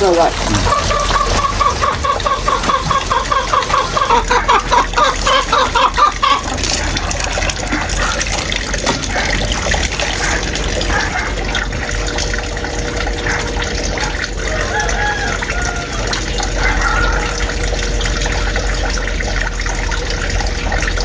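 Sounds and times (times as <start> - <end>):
water pouring: 0.0 - 21.0.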